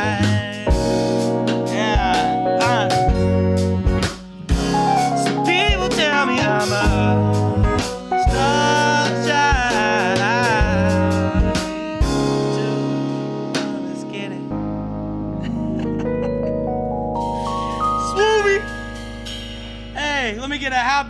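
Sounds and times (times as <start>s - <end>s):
jazz band playing: 0.0s - 20.4s.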